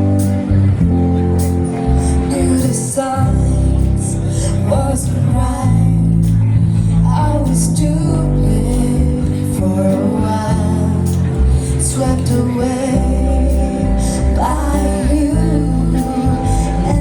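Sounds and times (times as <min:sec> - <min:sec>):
bass notes: 0:00.0 - 0:17.0
live band playing: 0:00.0 - 0:17.0
woman singing: 0:02.2 - 0:06.4, 0:07.0 - 0:17.0.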